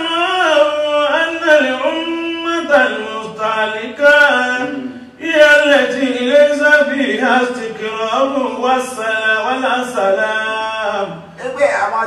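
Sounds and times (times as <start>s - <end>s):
man chanting into a microphone: 0.0s - 11.4s.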